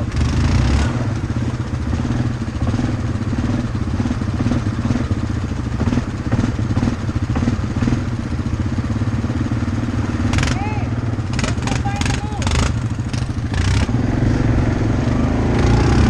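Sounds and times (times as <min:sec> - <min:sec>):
atv engine rumbling: 0:00.0 - 0:16.0.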